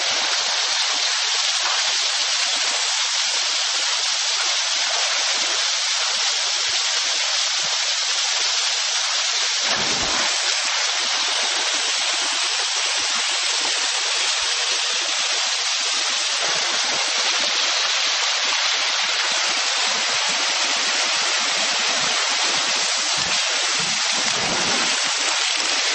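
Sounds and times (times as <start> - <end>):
water pouring down waterslide: 0.0 - 25.9
water splashing into pool: 0.0 - 25.9.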